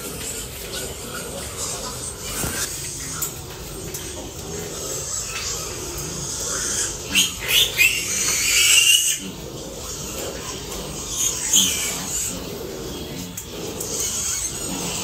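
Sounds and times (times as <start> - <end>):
piglets grunting: 0.0 - 15.0
piglets squealing: 0.0 - 15.0.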